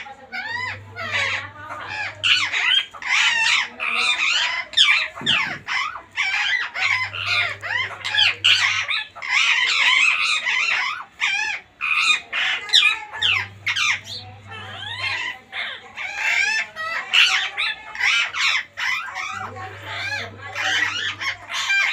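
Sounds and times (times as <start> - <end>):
parakeets squawking: 0.0 - 21.9.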